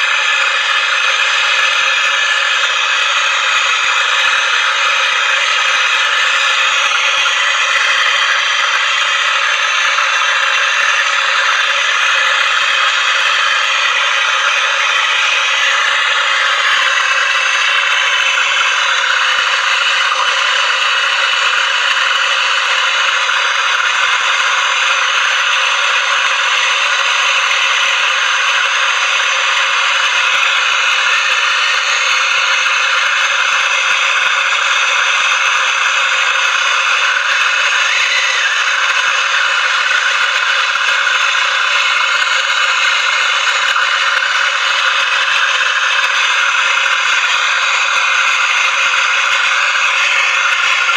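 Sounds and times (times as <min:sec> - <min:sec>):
gas torch hissing: 0:00.0 - 0:50.9.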